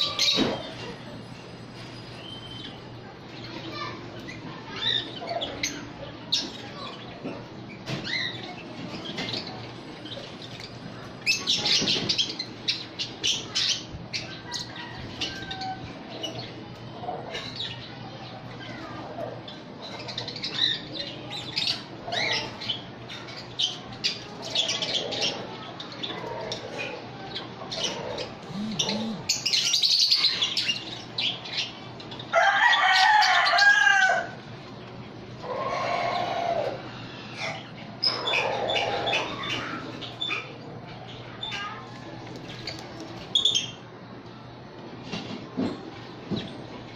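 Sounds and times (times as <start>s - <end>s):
parrots chirping and squawking: 0.0s - 1.1s, 3.4s - 34.4s, 35.4s - 43.8s.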